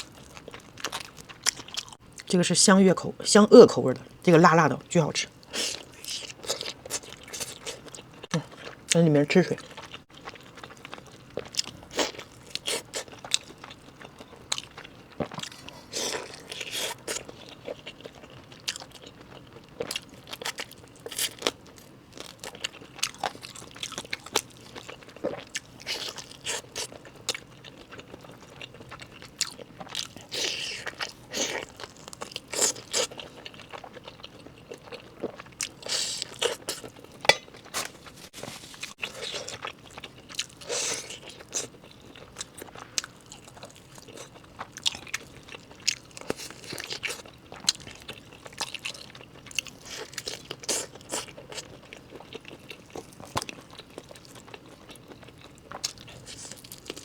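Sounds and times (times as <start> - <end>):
chewing: 0.0 - 2.3, 5.4 - 9.0, 9.6 - 57.0.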